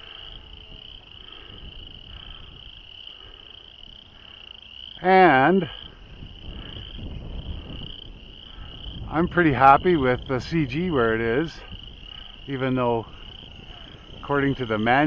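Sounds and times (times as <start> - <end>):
faint low wind rumble: 0.0 - 15.0
frogs calling: 0.0 - 15.0.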